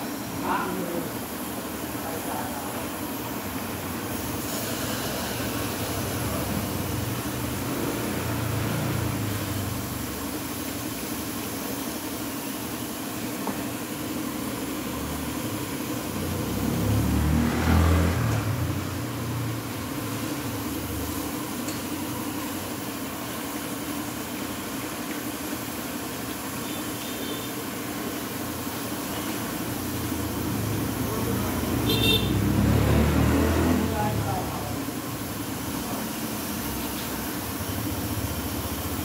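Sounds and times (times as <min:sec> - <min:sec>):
pressure washer spraying: 0:00.0 - 0:18.1, 0:18.8 - 0:39.0.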